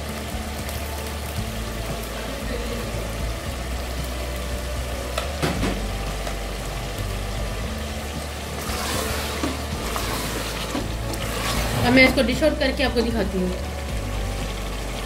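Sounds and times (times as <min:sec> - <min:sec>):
curry sizzling and bubbling in pot: 0:00.0 - 0:15.0.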